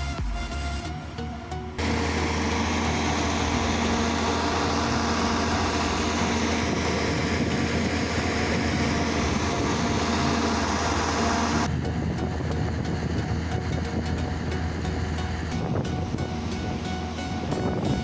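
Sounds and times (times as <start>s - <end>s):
machine engine low hum: 1.0s - 18.0s.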